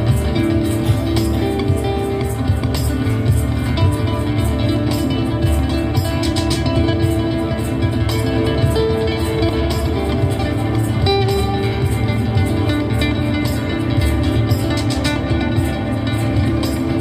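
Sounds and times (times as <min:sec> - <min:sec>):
acoustic band music: 0:00.0 - 0:17.0
plucked guitar: 0:00.0 - 0:17.0.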